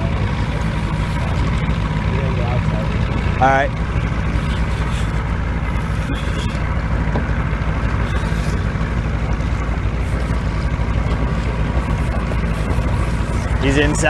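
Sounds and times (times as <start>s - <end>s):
boat motor running: 0.0s - 14.0s
wind and water noise: 0.0s - 14.0s.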